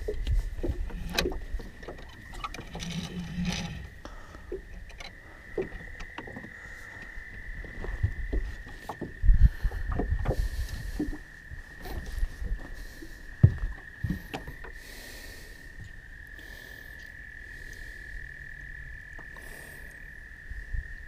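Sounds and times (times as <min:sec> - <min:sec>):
frogs trilling: 0:00.0 - 0:21.0.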